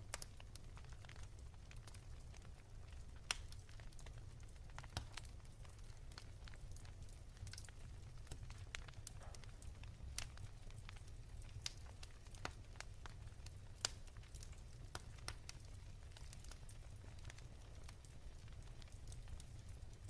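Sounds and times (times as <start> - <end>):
wood fire crackling softly: 0.0 - 20.0.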